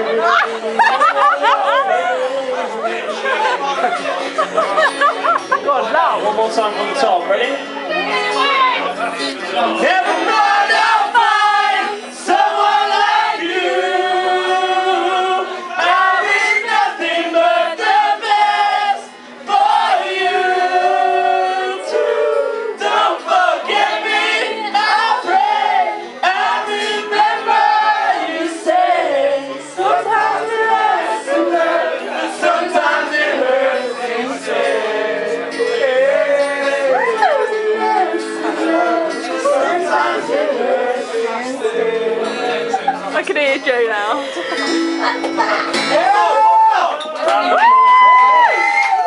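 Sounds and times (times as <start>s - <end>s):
voices singing together: 0.0s - 5.6s, 7.9s - 43.6s.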